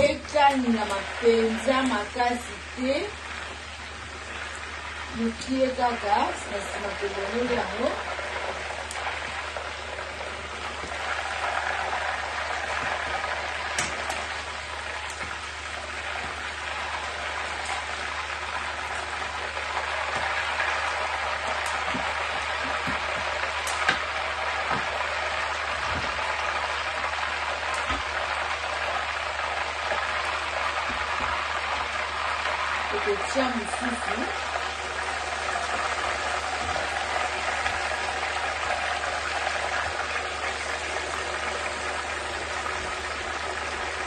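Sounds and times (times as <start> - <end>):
chicken sizzling in hot oil: 0.0 - 44.0.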